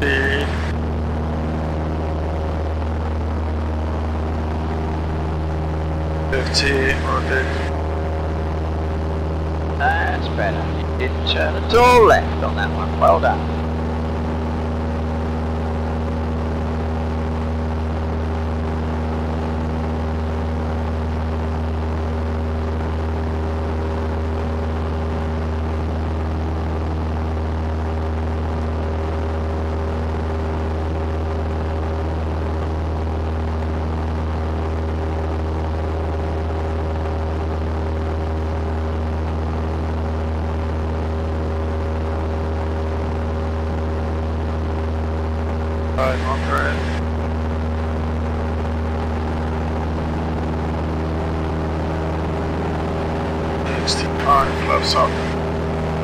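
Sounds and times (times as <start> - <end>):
propeller plane engine in cockpit: 0.0 - 56.0.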